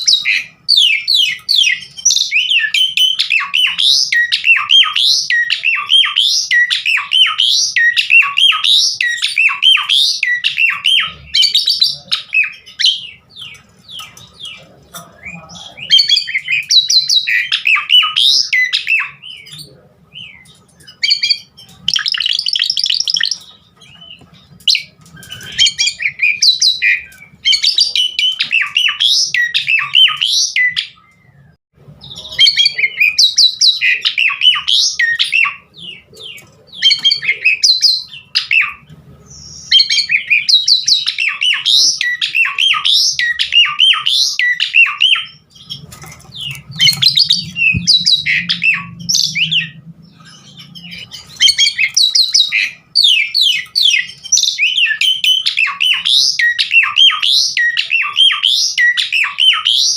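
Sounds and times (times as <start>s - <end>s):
starling singing whistles and chatters: 0.0s - 59.9s.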